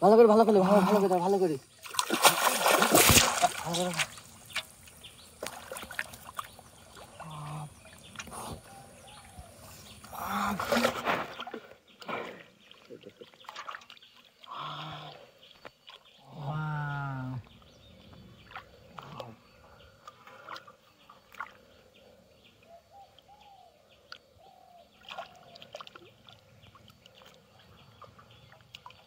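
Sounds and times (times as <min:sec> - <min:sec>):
water splashing: 0:00.4 - 0:16.5, 0:18.2 - 0:21.8, 0:24.9 - 0:29.0
faint bird chirps: 0:03.7 - 0:10.6, 0:11.3 - 0:29.0.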